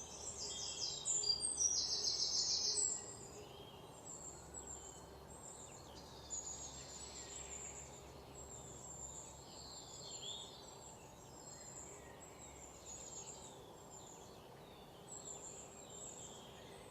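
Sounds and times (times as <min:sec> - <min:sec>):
birds chirping and singing: 0:00.0 - 0:16.9.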